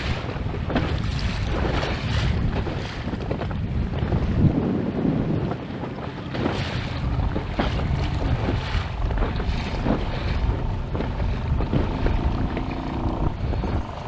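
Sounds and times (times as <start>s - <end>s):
water slapping against boat hull: 0.0s - 14.0s
wind buffeting microphone: 0.0s - 14.0s.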